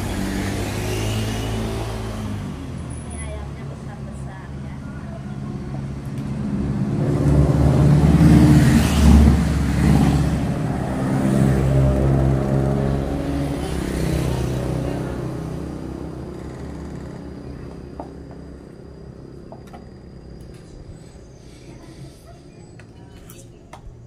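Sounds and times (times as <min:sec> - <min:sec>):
vehicle engine passing by: 0:00.0 - 0:23.0.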